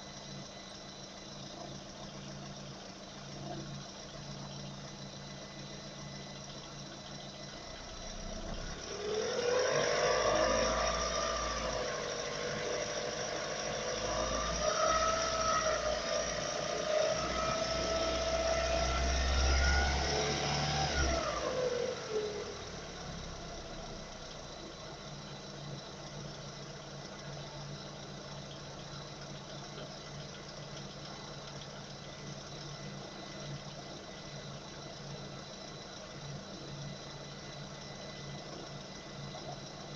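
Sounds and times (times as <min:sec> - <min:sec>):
car engine idling and revving: 0:03.3 - 0:39.9.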